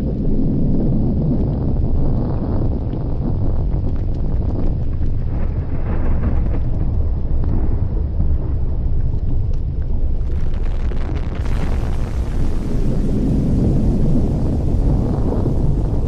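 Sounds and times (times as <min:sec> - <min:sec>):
faint crackles: 0:00.0 - 0:16.0
volcano deep rumble: 0:00.0 - 0:16.0.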